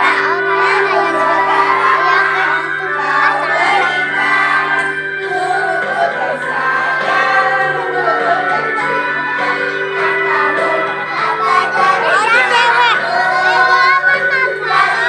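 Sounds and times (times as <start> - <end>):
children's choir singing: 0.0 - 15.0
musical accompaniment: 0.0 - 15.0.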